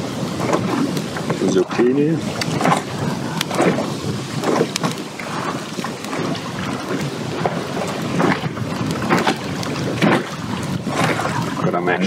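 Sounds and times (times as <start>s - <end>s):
water lapping against pier: 0.0s - 12.0s
wind buffeting microphone: 0.0s - 12.0s.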